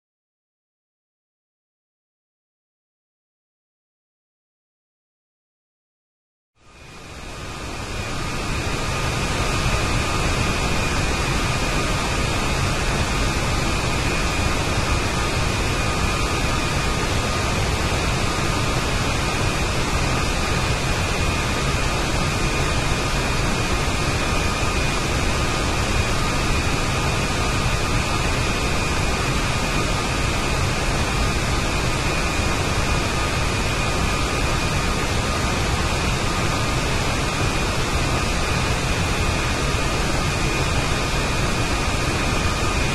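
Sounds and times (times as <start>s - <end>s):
jet engine rushing with high whine: 6.6s - 42.9s.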